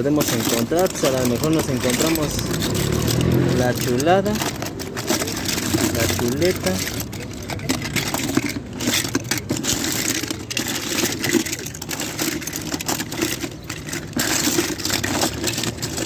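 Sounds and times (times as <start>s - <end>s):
toy cars clattering together: 0.0s - 16.0s.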